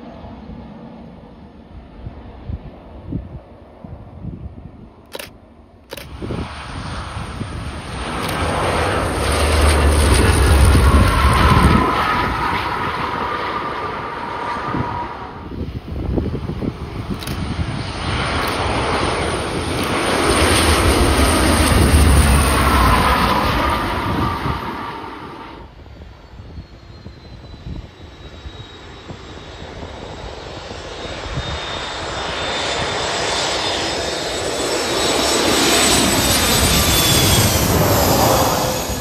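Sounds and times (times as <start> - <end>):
aircraft engines passing by: 0.0 - 39.0.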